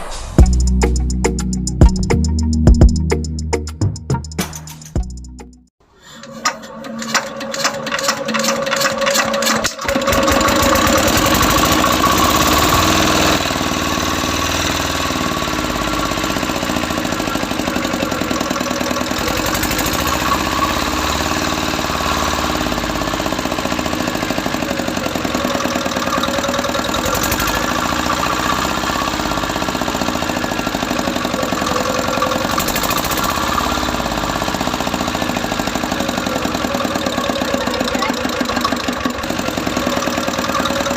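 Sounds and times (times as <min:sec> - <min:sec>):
small engine starting and running: 0:05.8 - 0:40.9.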